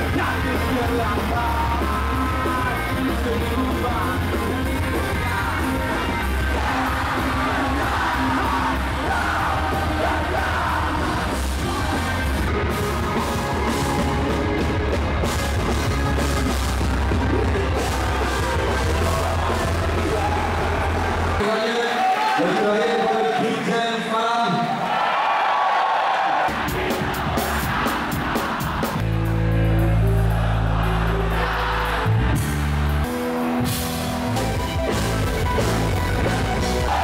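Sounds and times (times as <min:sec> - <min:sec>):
electric guitars: 0:00.0 - 0:21.4, 0:26.5 - 0:37.0
steady bass line: 0:00.0 - 0:21.4, 0:26.5 - 0:37.0.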